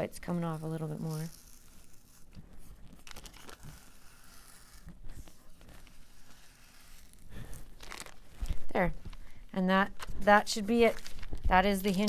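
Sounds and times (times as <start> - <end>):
plastic film crinkling: 0.3 - 12.0.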